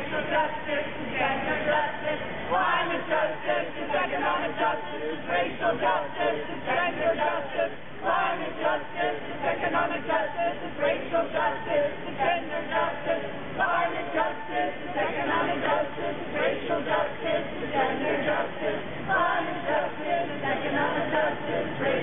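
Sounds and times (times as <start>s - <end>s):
crowd singing: 0.0s - 22.0s.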